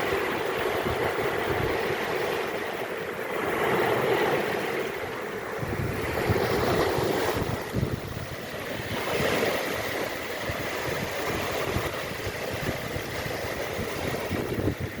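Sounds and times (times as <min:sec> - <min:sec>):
sea waves washing on shore: 0:00.0 - 0:15.0
wind buffeting microphone: 0:00.0 - 0:15.0.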